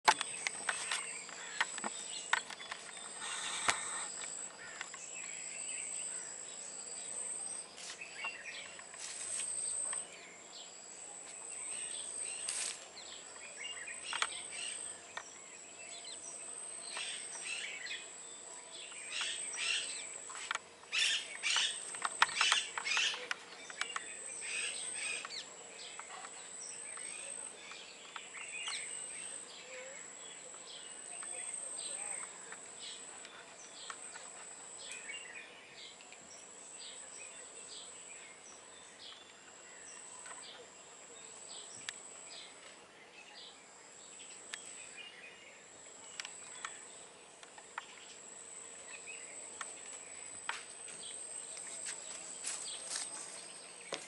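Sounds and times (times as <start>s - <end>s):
birds chirping: 0.0s - 54.0s
insect buzz: 0.1s - 54.0s.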